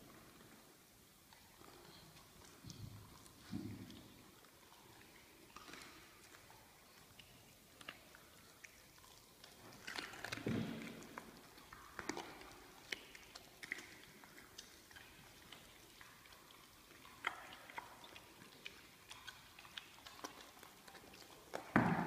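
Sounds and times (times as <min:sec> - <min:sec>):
lion cub chewing: 0:00.0 - 0:22.0.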